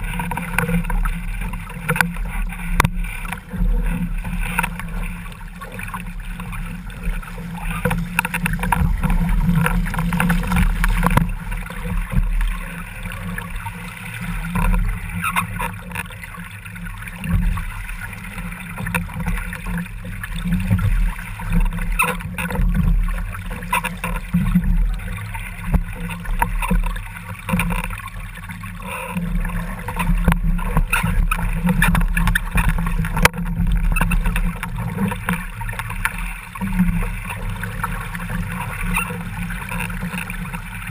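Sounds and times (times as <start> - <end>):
water rushing past boat: 0.0 - 40.9.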